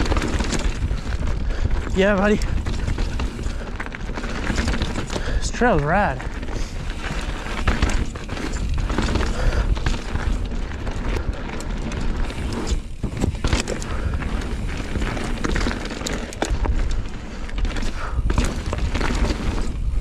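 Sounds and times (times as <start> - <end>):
bike clattering: 0.0 - 20.0
bike tyres rolling over rough ground: 0.0 - 20.0.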